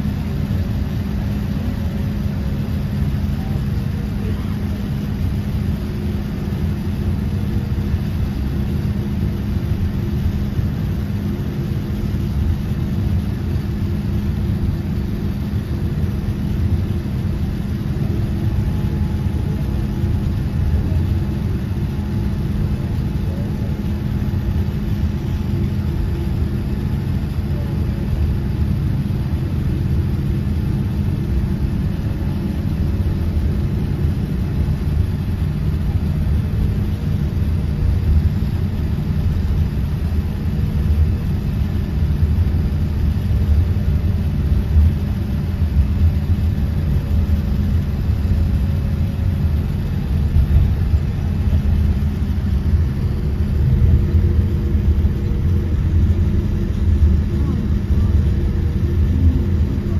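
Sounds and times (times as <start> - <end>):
faint steady whine: 0.0 - 59.9
jet engines idling rumble: 0.0 - 59.9.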